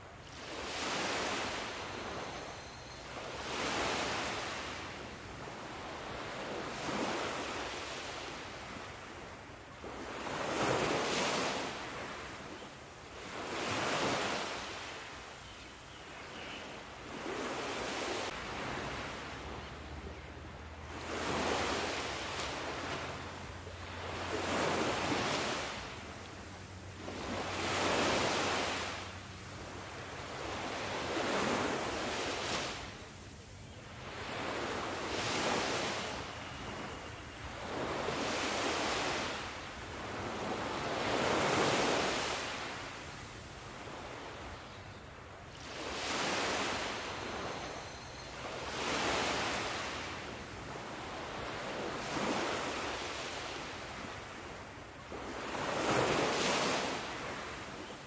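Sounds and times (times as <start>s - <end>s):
sea waves breaking on beach: 0.0s - 2.5s, 3.2s - 12.4s, 13.1s - 15.1s, 20.6s - 33.2s, 34.0s - 44.4s, 45.4s - 47.8s, 48.4s - 58.0s.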